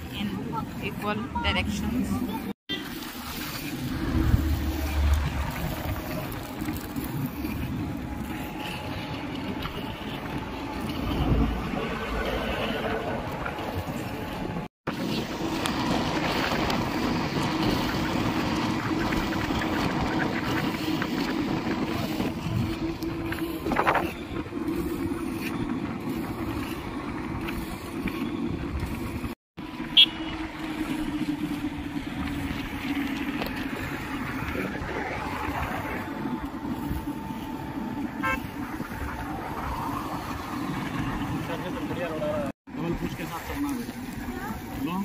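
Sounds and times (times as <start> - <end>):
vehicle engine drone: 0.0 - 45.0.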